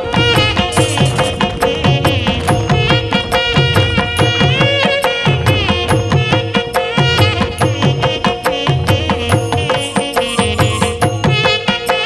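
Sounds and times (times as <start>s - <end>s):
quick steady drum beat: 0.0s - 11.8s
sustained melody: 0.6s - 11.9s.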